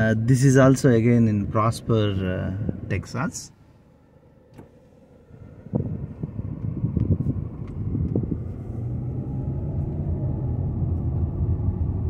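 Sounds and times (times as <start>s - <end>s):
car interior road and wind noise: 0.0s - 12.0s.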